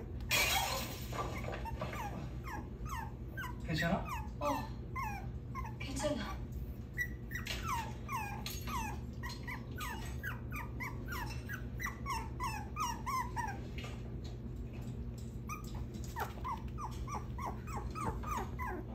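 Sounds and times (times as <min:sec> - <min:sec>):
puppy whimpering: 0:00.0 - 0:14.5, 0:15.2 - 0:18.9.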